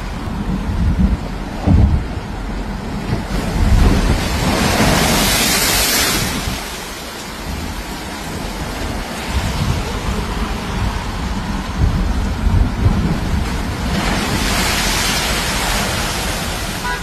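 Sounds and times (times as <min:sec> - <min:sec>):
waves crashing over seawall: 0:00.0 - 0:17.0
wind buffeting microphone: 0:00.0 - 0:17.0.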